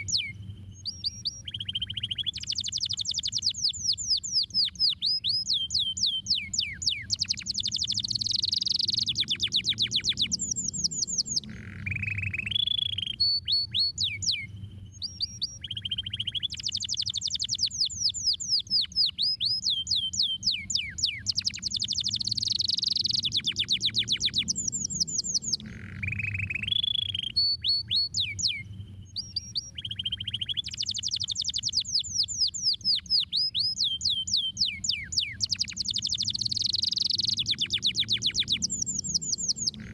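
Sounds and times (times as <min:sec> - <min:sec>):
canary singing: 0:00.0 - 0:39.9
steady low hum: 0:00.0 - 0:39.9.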